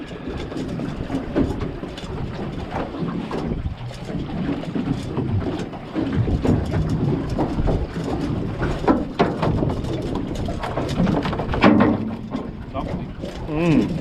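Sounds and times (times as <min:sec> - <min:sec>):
wind rumbling on microphone: 0:00.0 - 0:14.0
knocks and clatters: 0:00.4 - 0:13.4.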